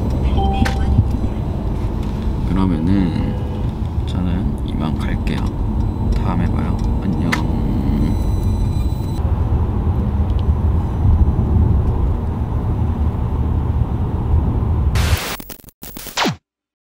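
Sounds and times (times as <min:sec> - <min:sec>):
car rumbling from inside cabin: 0:00.0 - 0:14.9.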